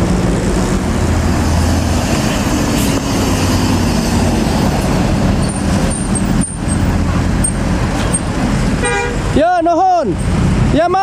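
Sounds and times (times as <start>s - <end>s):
bus engine driving past: 0.0s - 9.4s
road noise: 0.0s - 11.0s.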